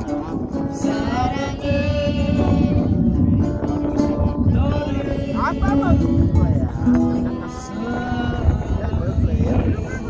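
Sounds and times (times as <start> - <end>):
low rumble: 1.1 - 10.0.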